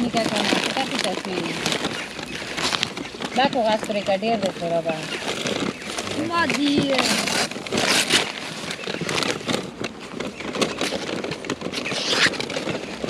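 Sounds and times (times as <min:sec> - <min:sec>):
corn husks tearing and rustling: 0:00.0 - 0:13.0.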